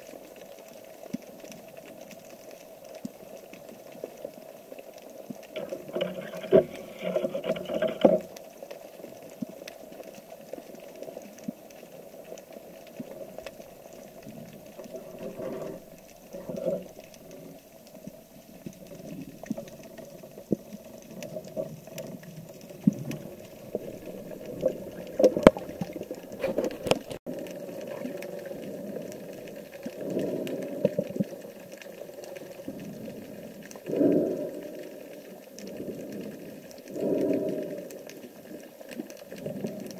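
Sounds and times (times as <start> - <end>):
muffled underwater rush: 5.5 - 8.4, 10.7 - 39.9.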